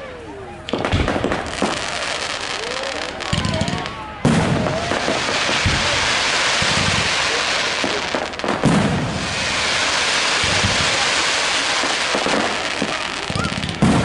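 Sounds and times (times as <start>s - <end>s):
fireworks crackling: 0.6s - 14.0s
firework booms: 0.7s - 14.0s.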